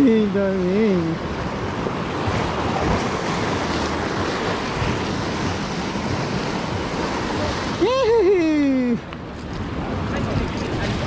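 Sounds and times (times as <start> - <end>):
sea surf washing on shore: 0.0 - 11.0
wind blowing on microphone: 0.0 - 11.0.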